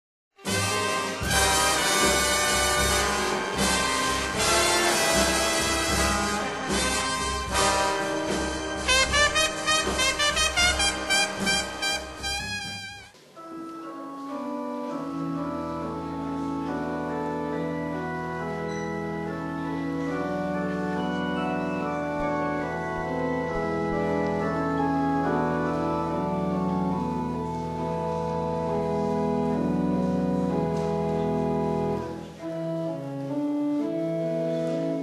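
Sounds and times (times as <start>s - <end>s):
church organ chords: 0.5s - 35.0s.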